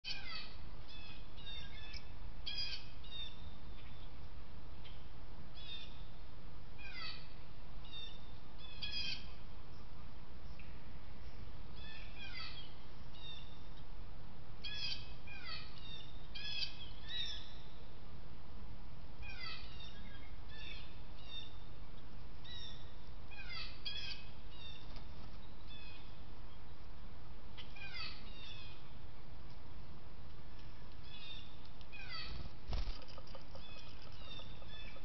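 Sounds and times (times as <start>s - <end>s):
songbirds singing: 0.0s - 14.0s, 14.6s - 18.0s, 19.2s - 29.6s, 30.3s - 35.0s.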